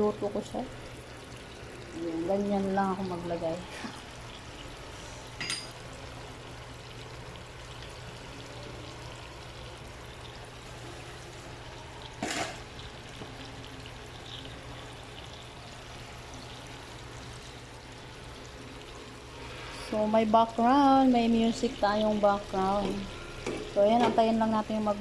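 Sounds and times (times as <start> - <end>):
fish sizzling in a frying pan: 0.0 - 25.0.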